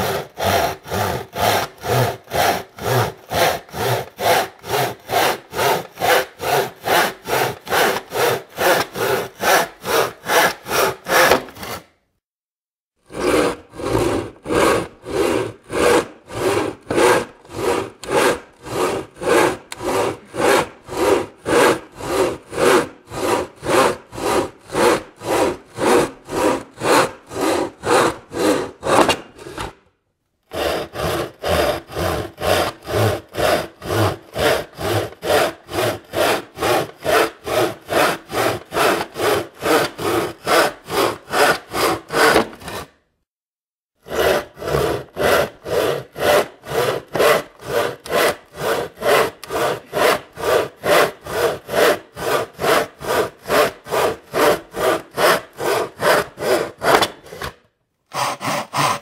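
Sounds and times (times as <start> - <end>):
hand saw cutting wood: 0.0 - 12.1, 13.0 - 43.1, 44.0 - 59.0.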